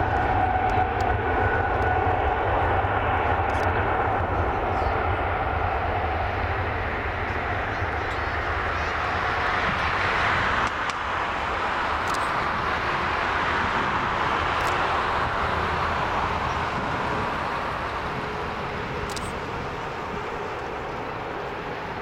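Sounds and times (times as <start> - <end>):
jet engines rushing hiss: 0.0 - 22.0.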